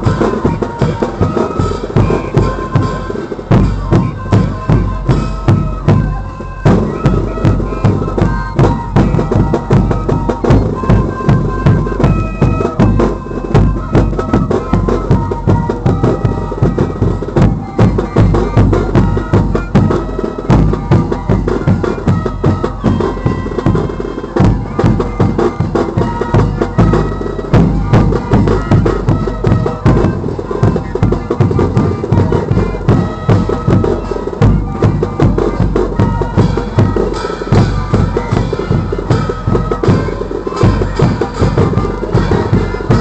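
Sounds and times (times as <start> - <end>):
reedy wind instruments melody: 0.0 - 43.0
steady drumbeat: 0.0 - 43.0.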